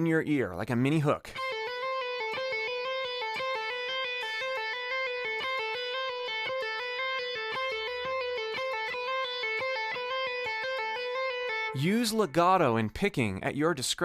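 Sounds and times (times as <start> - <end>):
guitar playing fast phrase: 1.3 - 12.8.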